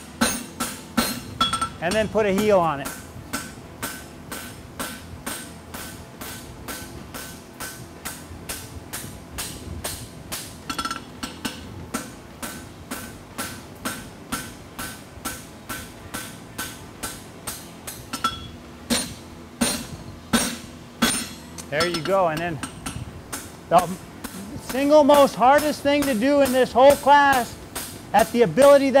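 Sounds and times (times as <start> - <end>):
hammer striking steel on anvil: 0.2 - 28.9.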